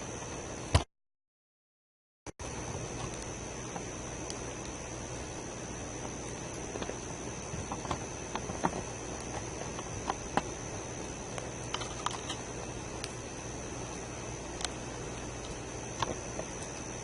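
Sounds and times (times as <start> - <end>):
campfire crackling and popping: 2.6 - 17.0.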